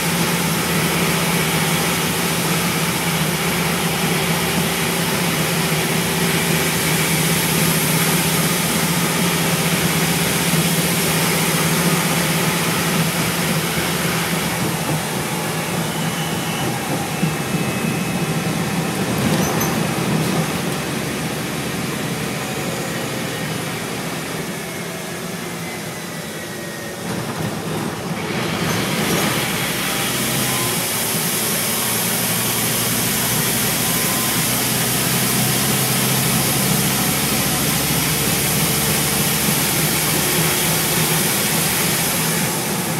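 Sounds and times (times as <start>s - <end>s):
bus diesel engine: 0.0s - 42.9s.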